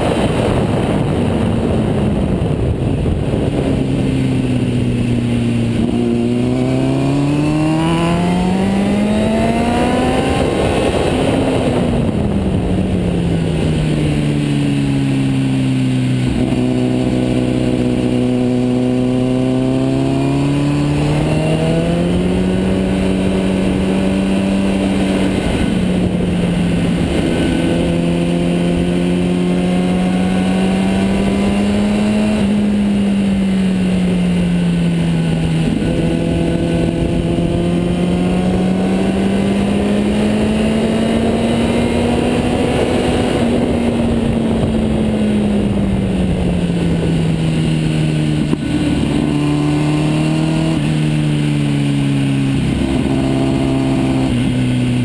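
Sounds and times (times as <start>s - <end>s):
motorcycle engine running: 0.0s - 55.0s
wind rushing: 0.0s - 55.0s.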